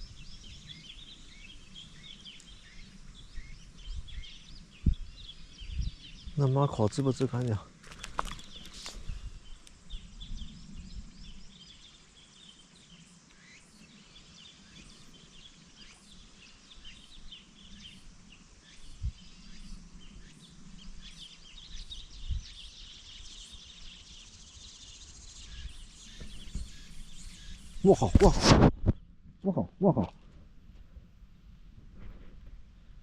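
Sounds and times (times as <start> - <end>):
birds chirping: 0.0 - 30.3.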